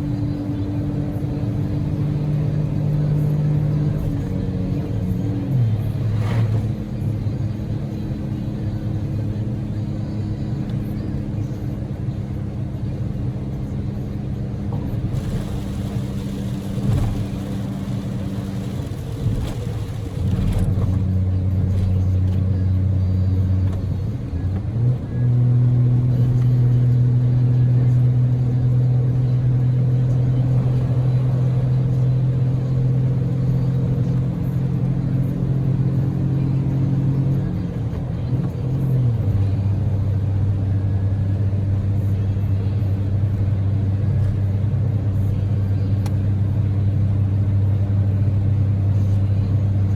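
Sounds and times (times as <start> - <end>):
car engine droning: 0.0 - 49.9
road noise: 0.0 - 49.9.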